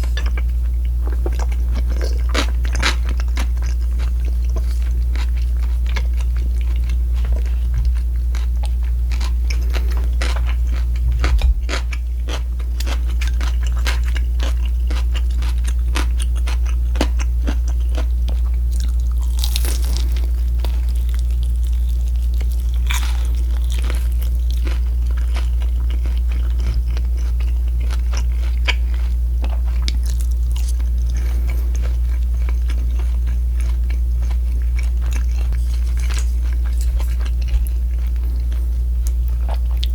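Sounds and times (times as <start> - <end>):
crunchy chewing: 0.0 - 39.9
steady low hum: 0.0 - 39.9.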